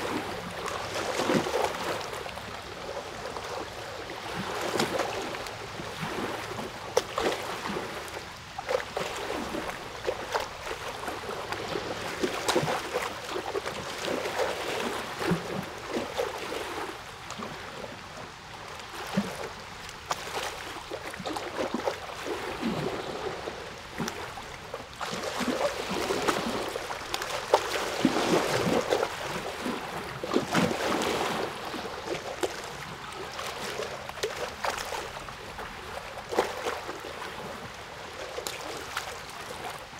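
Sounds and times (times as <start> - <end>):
water rushing: 0.0 - 39.9
water splashing: 0.0 - 39.9.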